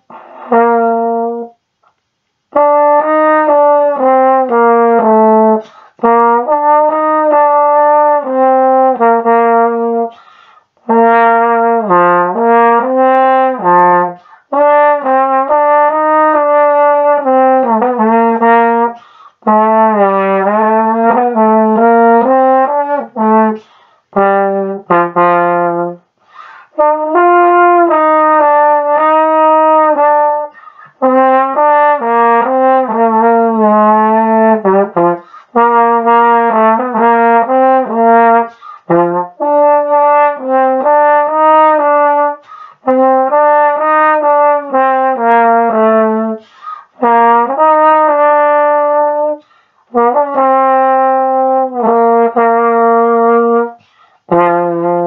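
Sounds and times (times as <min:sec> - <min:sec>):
solo trombone melody: 0:00.0 - 0:01.7, 0:02.5 - 0:55.0.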